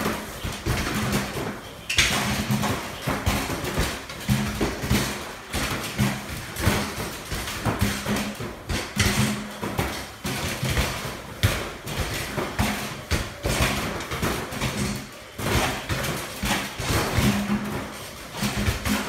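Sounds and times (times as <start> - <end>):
basketballs hitting backboard and rim: 0.0 - 19.0.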